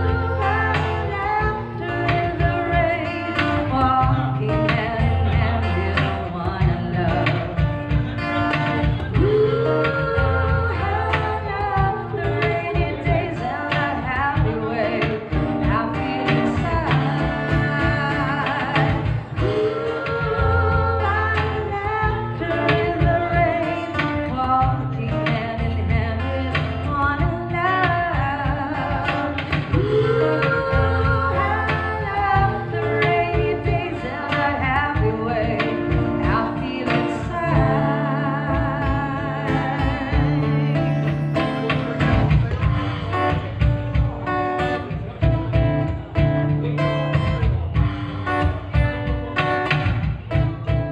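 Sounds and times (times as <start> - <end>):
woman singing a ballad: 0.0 - 41.2
acoustic guitar: 0.0 - 50.9
acoustic percussion: 0.0 - 50.9.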